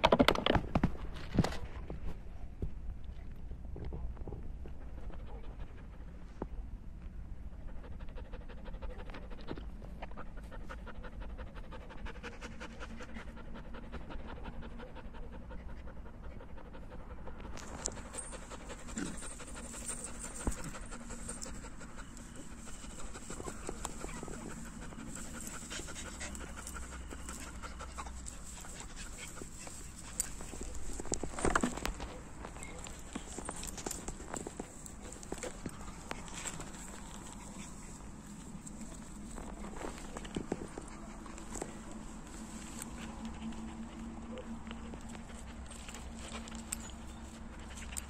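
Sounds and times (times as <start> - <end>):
dog panting: 7.5 - 48.0.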